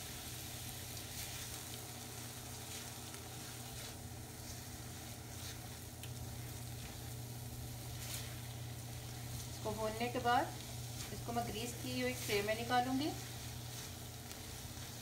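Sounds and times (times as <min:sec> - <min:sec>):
mixture sizzling in a wok: 0:00.0 - 0:15.0
steady low hum: 0:00.0 - 0:15.0.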